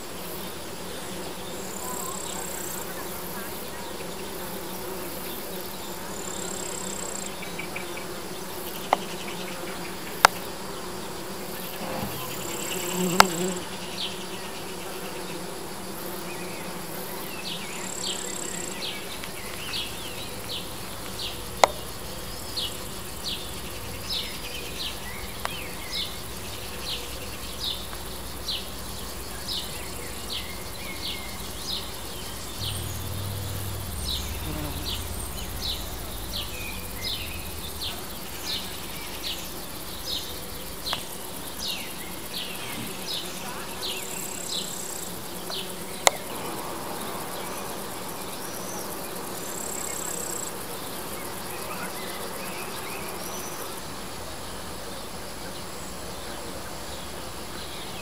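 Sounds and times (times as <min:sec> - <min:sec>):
bees buzzing: 0:00.0 - 0:51.4.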